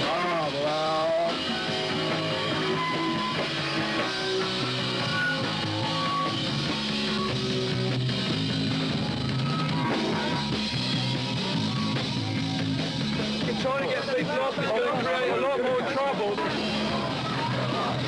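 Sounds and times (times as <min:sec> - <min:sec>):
punk rock band playing: 0:00.0 - 0:18.0.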